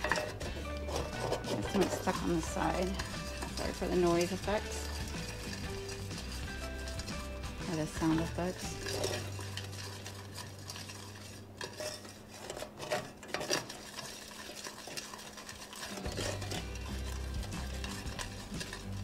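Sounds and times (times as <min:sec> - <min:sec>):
spoon scraping saucepan: 0:00.0 - 0:19.0.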